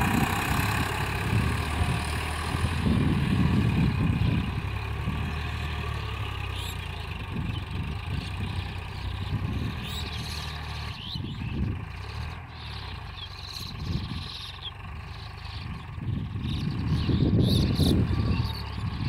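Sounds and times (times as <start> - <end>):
tractor diesel engine running: 0.0 - 19.0
birds chirping: 3.2 - 19.0.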